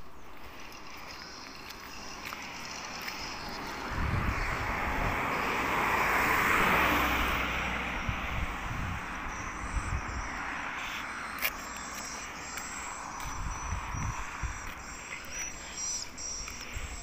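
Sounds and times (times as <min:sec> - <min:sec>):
vehicle passing by: 0:02.5 - 0:17.0.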